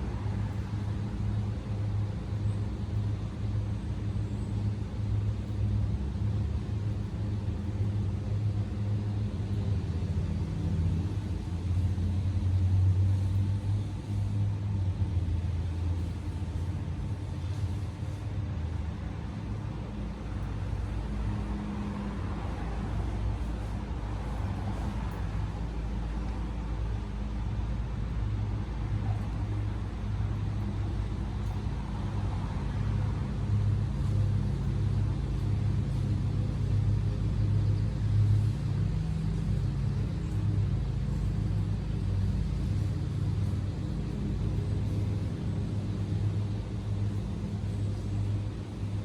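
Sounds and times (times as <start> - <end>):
low outdoor rumble: 0.0 - 49.0.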